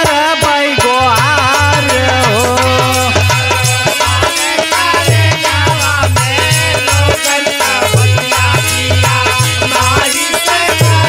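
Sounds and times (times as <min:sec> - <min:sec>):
devotional song with drum beat: 0:00.0 - 0:11.0.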